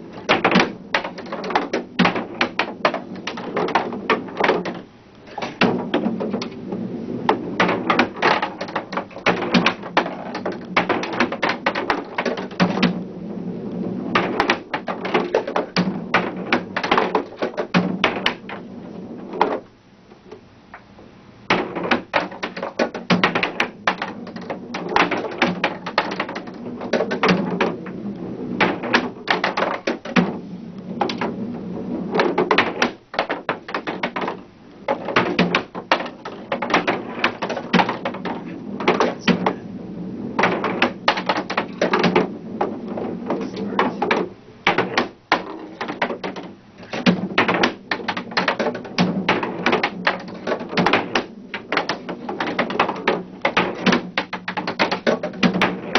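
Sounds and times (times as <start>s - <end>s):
skee-ball balls clattering: 0.0s - 55.9s.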